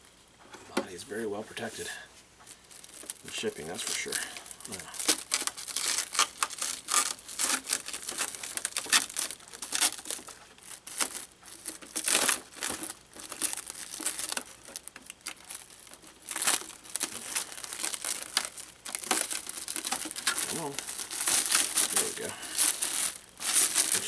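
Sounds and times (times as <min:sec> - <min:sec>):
plastic wrap crinkling and tearing: 0:02.4 - 0:24.0.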